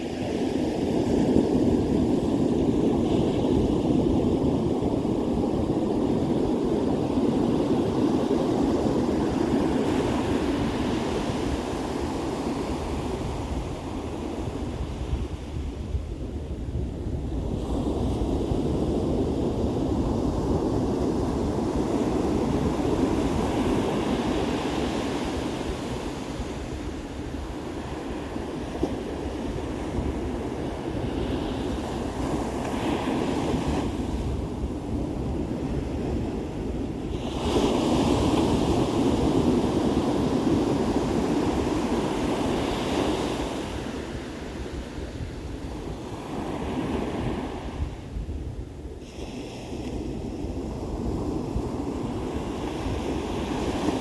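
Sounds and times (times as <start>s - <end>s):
ocean waves washing on beach: 0.0s - 54.0s
wind rumbling on microphone: 0.0s - 54.0s.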